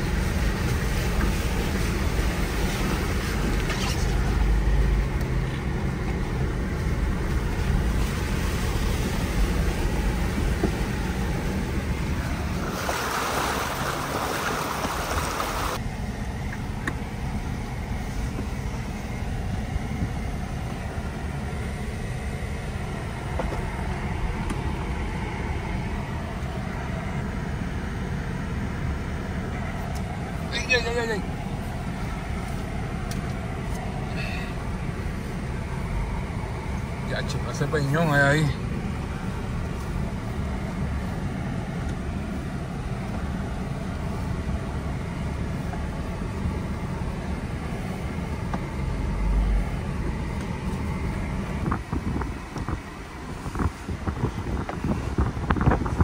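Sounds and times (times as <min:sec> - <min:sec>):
engine and tyres rumbling: 0:00.0 - 0:56.0.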